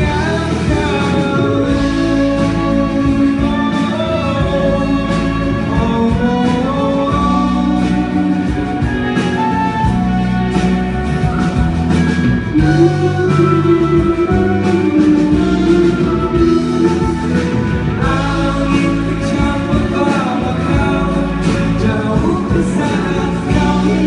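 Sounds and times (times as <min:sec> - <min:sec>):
bass and drums: 0:00.0 - 0:24.0
guitar melody: 0:00.0 - 0:24.0.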